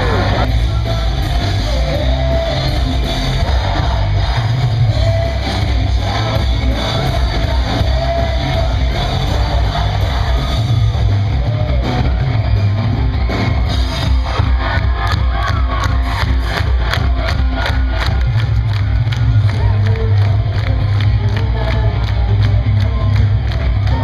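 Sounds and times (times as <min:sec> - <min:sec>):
rock music with singing: 0:00.0 - 0:24.0.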